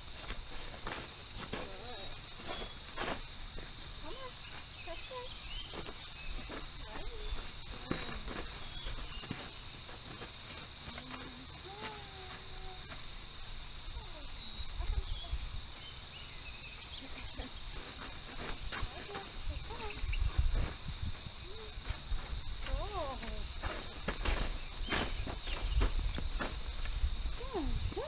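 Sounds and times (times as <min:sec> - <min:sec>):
footsteps on tarp: 0:00.0 - 0:16.0, 0:17.0 - 0:28.0
rustling on plastic tarp: 0:00.0 - 0:16.1, 0:16.9 - 0:28.0
insects chirping: 0:00.0 - 0:28.0.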